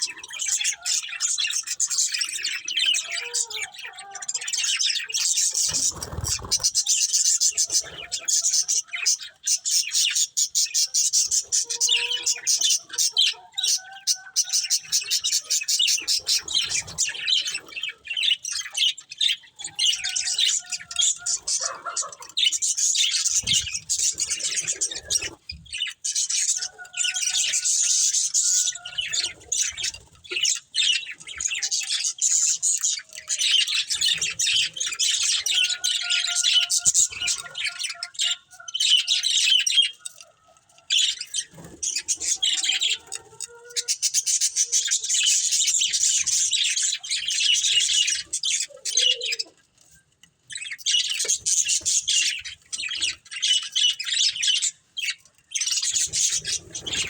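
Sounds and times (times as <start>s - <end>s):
budgerigars chirping: 0.0s - 49.6s, 50.5s - 57.0s.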